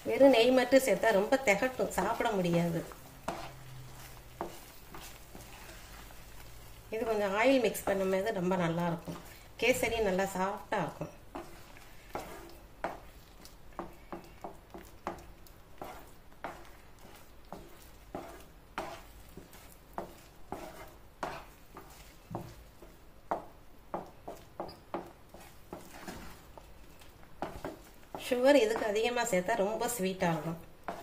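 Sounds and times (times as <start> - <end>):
wooden spatula scraping a pan: 0.0 - 31.0.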